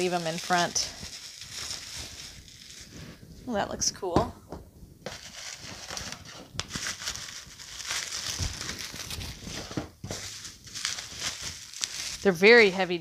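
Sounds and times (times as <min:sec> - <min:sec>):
bubble wrap crinkling: 0:00.0 - 0:03.8, 0:05.0 - 0:13.0.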